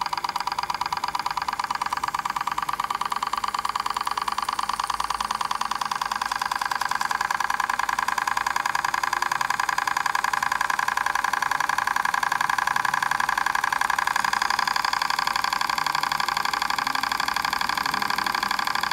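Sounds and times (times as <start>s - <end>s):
small engine ticking: 0.0s - 18.9s.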